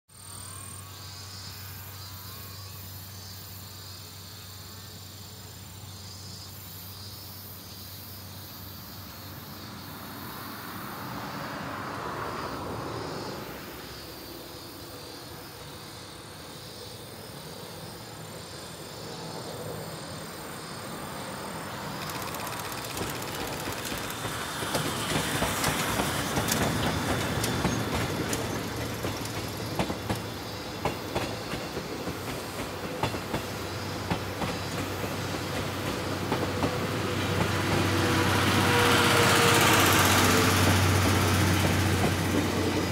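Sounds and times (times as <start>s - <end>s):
approaching steam train: 0.1s - 42.9s
insects trilling: 0.1s - 42.9s.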